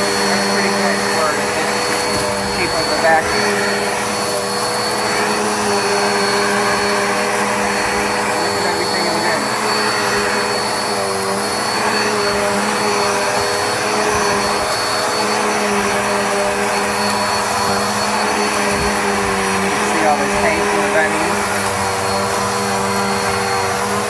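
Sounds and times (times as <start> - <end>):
upright vacuum cleaner running: 0.0 - 24.0.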